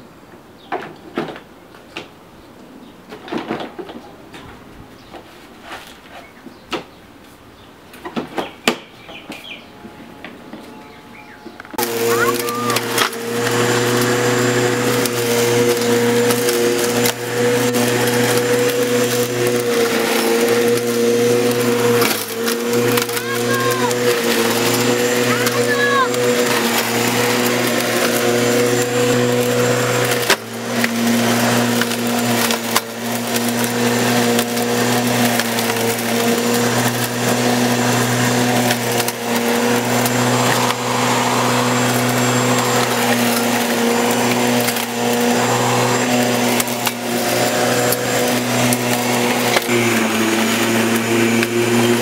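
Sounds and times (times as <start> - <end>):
electric lawnmower cutting grass: 9.0 - 52.0.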